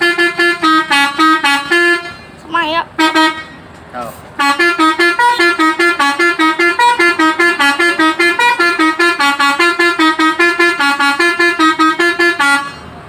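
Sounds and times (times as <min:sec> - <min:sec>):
bus air horn playing a tune: 0:00.0 - 0:13.0.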